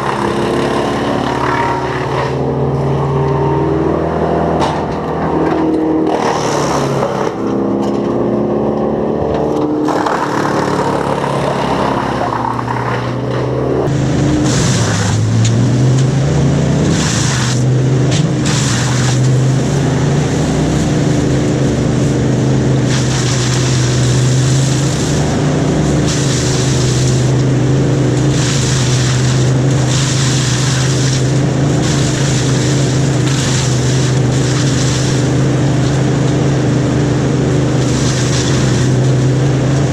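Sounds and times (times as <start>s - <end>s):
engine running under load: 0.0s - 39.9s.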